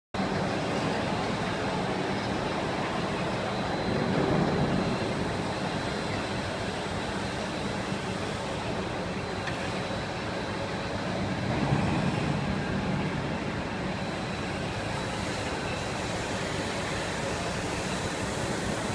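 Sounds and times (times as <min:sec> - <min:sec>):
laminating machine rumbling: 0:00.2 - 0:18.9.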